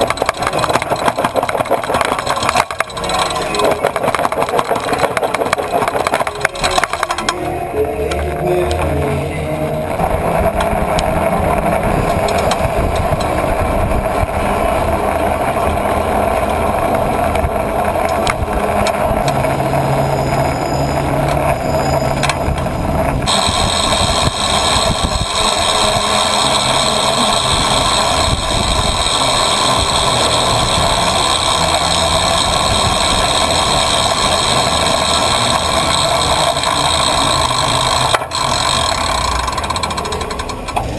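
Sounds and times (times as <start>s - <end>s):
city traffic hum: 0.0s - 40.9s
rumble of tyres and wind: 0.0s - 40.9s.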